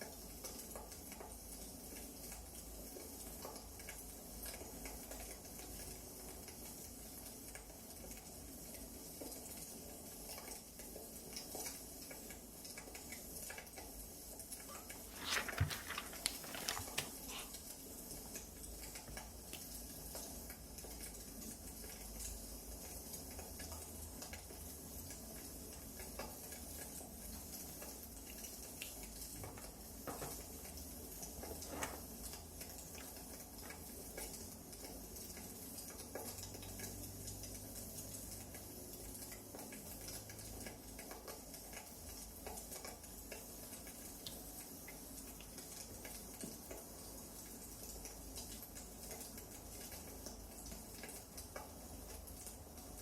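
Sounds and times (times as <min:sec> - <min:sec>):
faint steady fire hiss: 0:00.0 - 0:53.0.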